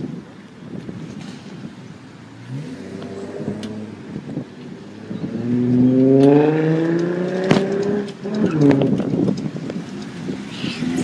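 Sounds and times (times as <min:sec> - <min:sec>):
traffic noise: 0:00.0 - 0:11.0
car engine accelerating: 0:01.0 - 0:11.0.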